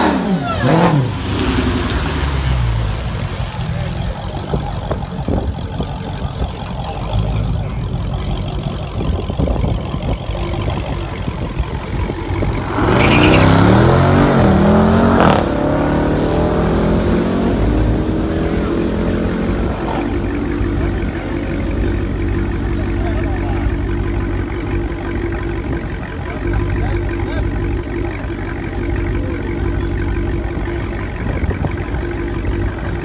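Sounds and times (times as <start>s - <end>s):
drag-racing car engine revving: 0.0s - 33.0s.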